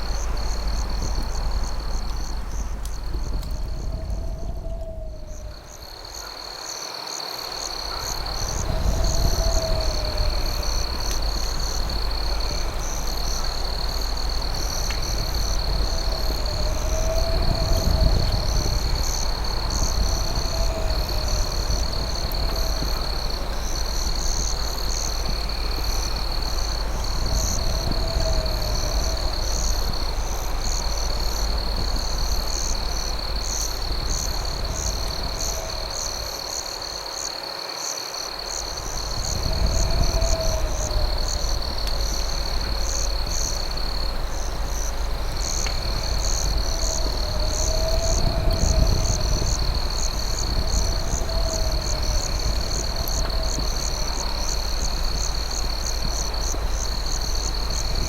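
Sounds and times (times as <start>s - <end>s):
crickets trilling: 0.0s - 58.0s
high pulsing insect: 0.0s - 58.0s
lower bowed insect call: 0.0s - 58.0s.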